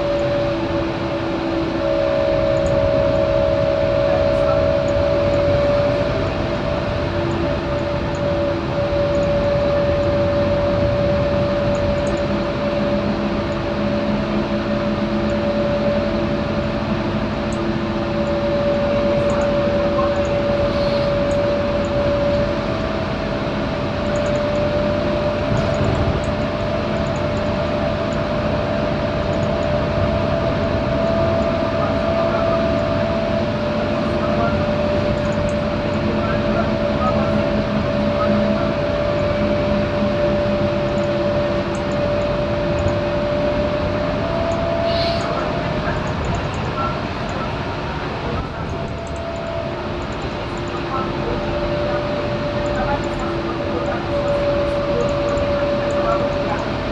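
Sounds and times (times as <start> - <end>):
bus drivetrain whine: 0.0 - 56.9
bus engine drone: 0.0 - 56.9.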